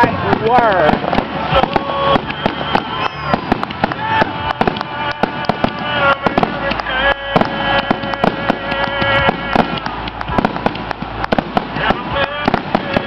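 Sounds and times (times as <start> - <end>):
fireworks bursting: 0.0 - 13.0
music playing: 0.0 - 13.0.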